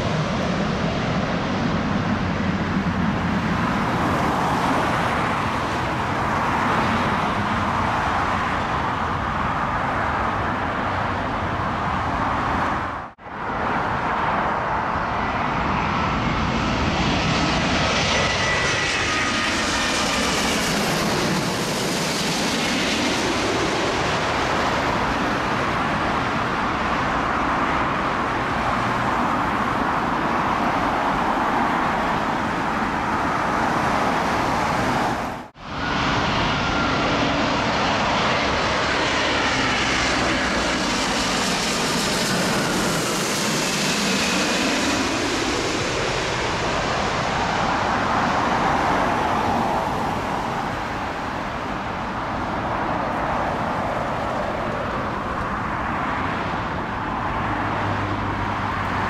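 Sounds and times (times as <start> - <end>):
jet airliner rushing noise: 0.0 - 13.1, 13.9 - 58.2
jet airliner passing overhead: 0.0 - 59.0.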